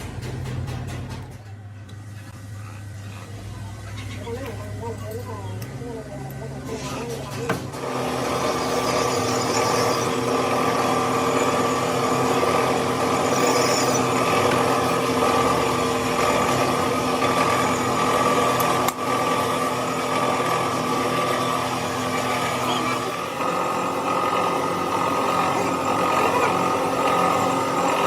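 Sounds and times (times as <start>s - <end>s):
workshop machine motor humming: 0.0s - 28.0s.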